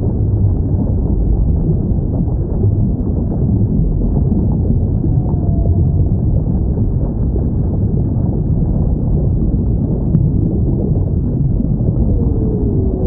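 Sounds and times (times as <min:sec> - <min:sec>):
low rumble of sea noise: 0:00.0 - 0:13.0.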